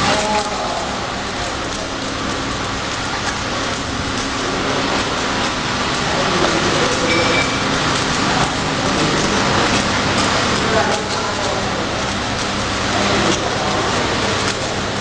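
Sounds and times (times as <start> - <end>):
hydraulic baler running: 0.0 - 15.0.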